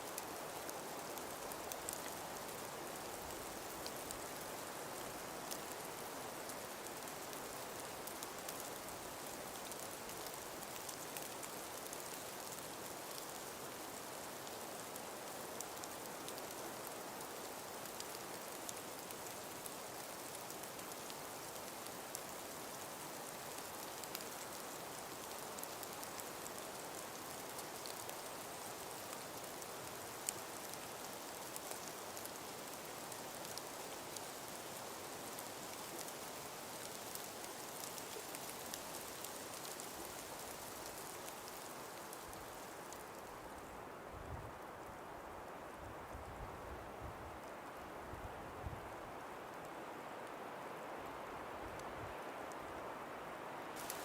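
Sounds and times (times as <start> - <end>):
breeze through forest: 0.0 - 54.0
faint scattered ticks: 0.0 - 54.0.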